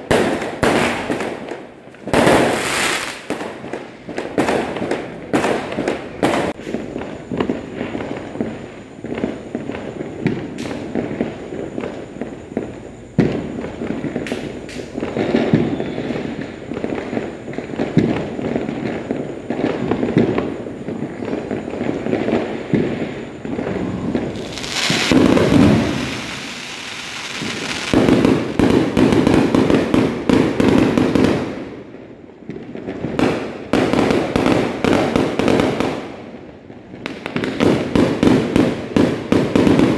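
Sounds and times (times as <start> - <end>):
firecrackers crackling: 0.0 - 39.9
firework bangs: 0.0 - 39.9
hissing crackle: 0.0 - 39.9.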